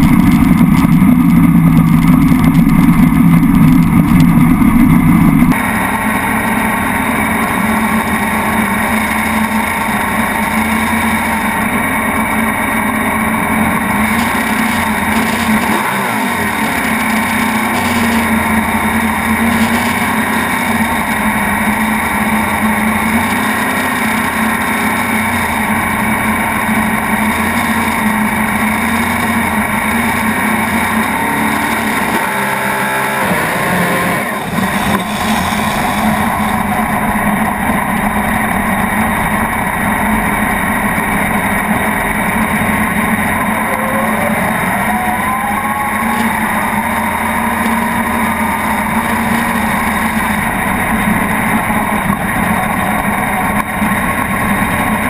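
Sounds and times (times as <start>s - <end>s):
loud engine running then idling: 0.0s - 55.0s.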